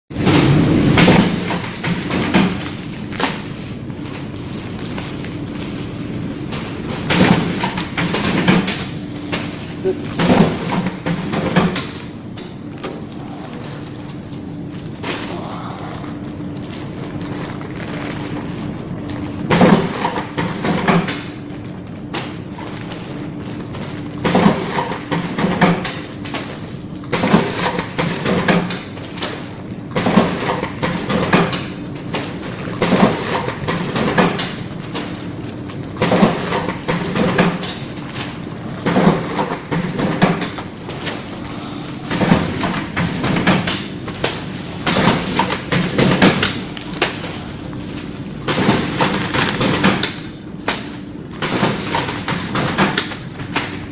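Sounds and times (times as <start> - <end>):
machine humming: 0.1 - 53.9.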